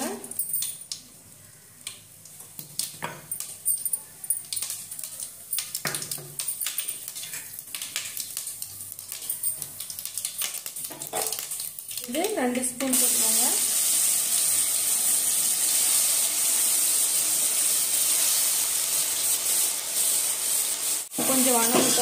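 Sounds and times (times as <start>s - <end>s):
seeds crackling in hot oil: 0.0s - 22.0s.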